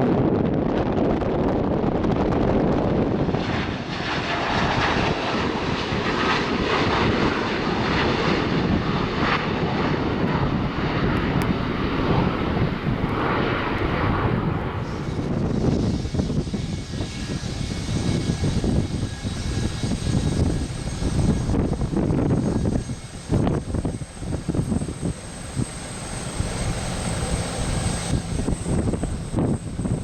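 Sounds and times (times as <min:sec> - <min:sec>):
airliner engines running: 0:00.0 - 0:30.0.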